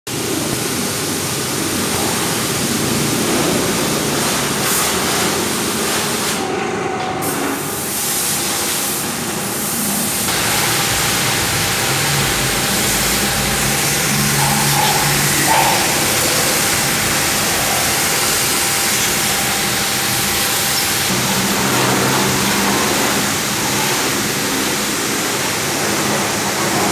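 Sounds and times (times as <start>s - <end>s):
high-pressure water spray hissing: 0.1s - 6.4s, 7.2s - 26.9s.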